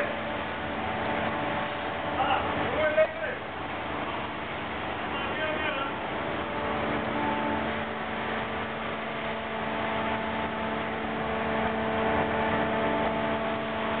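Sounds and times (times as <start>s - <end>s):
ship machinery humming: 0.0s - 14.0s.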